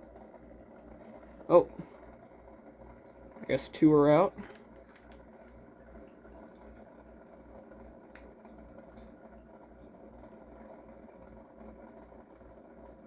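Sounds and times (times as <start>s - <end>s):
aquarium filter humming: 0.0s - 13.0s.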